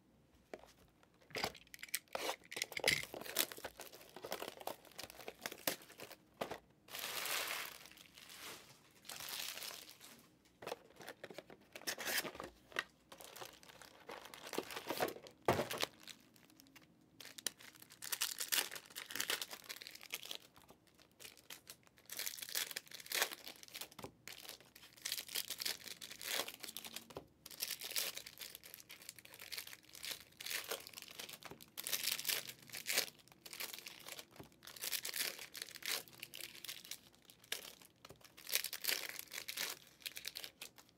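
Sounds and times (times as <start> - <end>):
plastic wrapping crinkling and tearing: 1.2 - 40.9.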